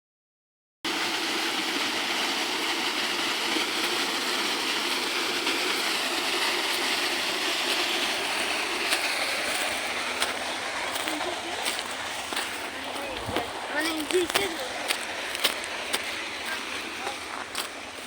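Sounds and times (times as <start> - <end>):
waterfall roaring: 0.9 - 18.0.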